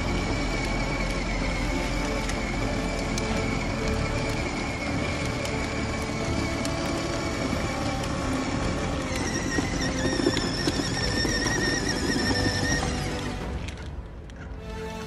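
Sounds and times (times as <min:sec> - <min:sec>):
toy car motors whining: 0:00.0 - 0:13.9
wheels rumbling on paving: 0:00.0 - 0:15.0.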